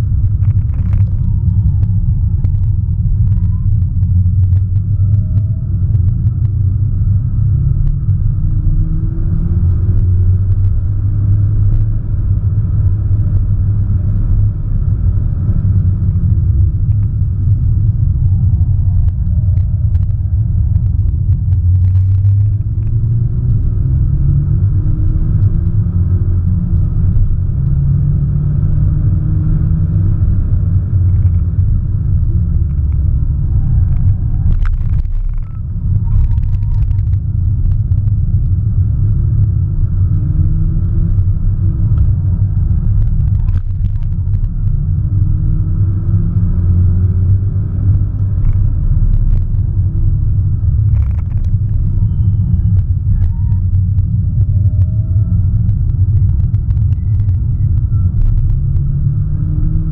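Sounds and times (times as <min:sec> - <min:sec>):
road noise inside car: 0:00.0 - 0:59.9.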